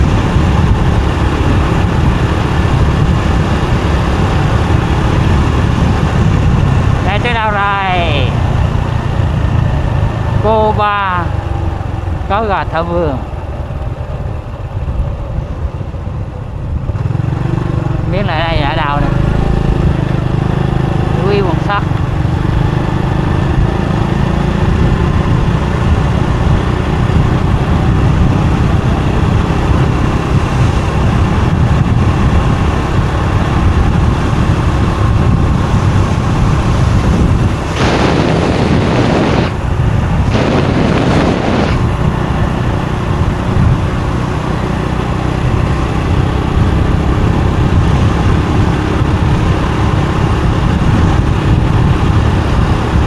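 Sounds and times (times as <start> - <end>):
motorbike engine and road rumble: 0.0 - 53.0.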